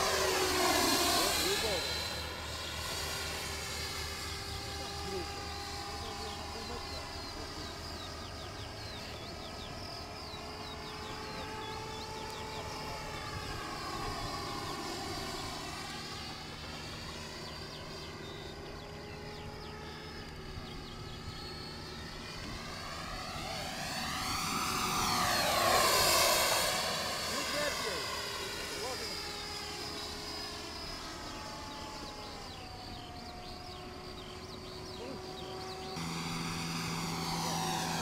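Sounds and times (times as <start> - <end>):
electric ducted fan whining: 0.0 - 38.0.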